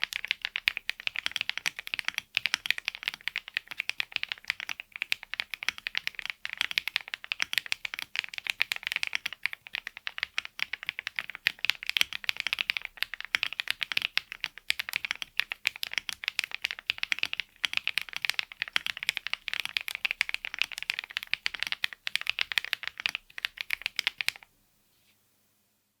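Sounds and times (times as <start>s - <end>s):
mechanical keyboard typing: 0.0s - 24.5s.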